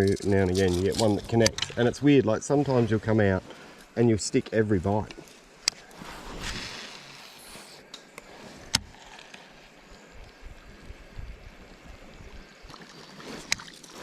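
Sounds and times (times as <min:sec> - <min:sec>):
quiet water sounds: 0:00.0 - 0:14.0.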